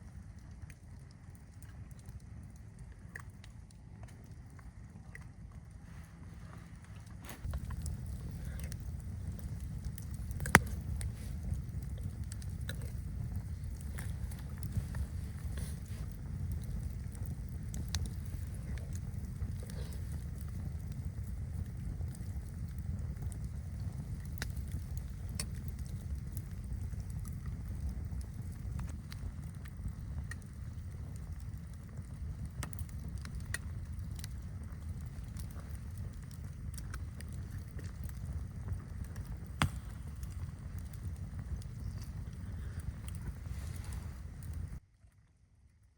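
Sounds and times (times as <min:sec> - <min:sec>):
small crackles: 0:00.0 - 0:45.9
low wind rumble: 0:01.1 - 0:44.8.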